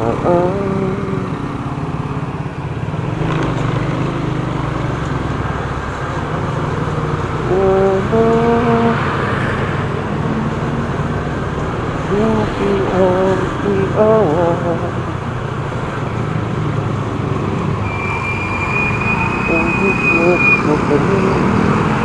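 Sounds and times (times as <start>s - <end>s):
motorcycle engine running: 0.0s - 17.8s
road noise: 0.0s - 22.0s.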